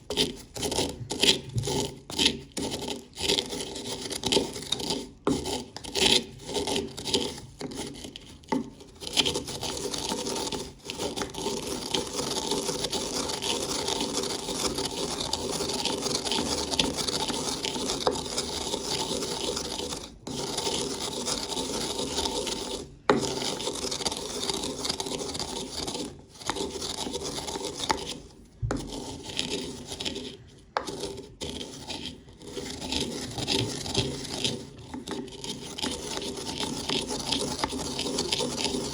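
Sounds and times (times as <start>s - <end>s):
spice grinder grinding chips: 0.0s - 28.2s, 28.9s - 38.9s.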